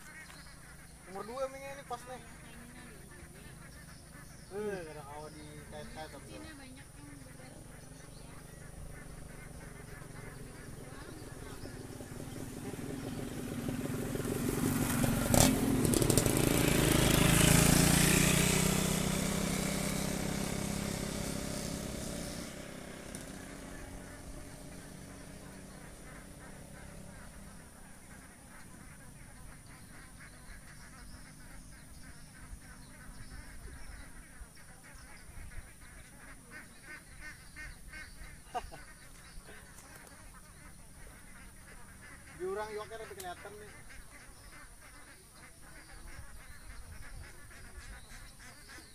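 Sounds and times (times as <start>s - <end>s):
motorbike passing: 0.0s - 48.9s.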